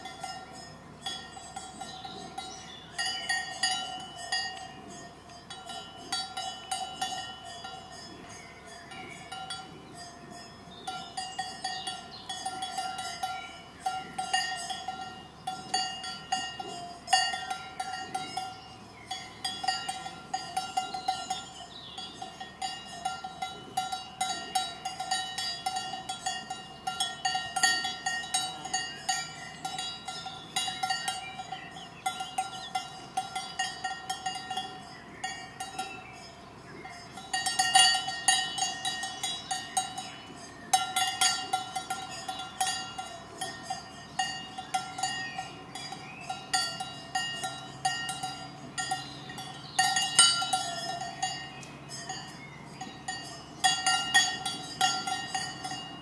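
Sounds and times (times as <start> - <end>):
cowbells clanking: 0.0 - 56.0.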